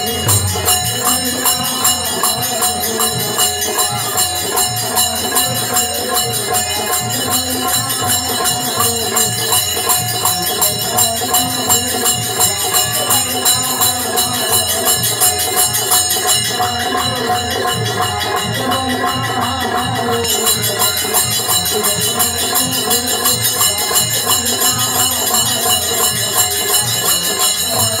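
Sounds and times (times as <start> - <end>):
harmonium held tones: 0.0 - 28.0
jingling hand cymbals: 0.0 - 28.0.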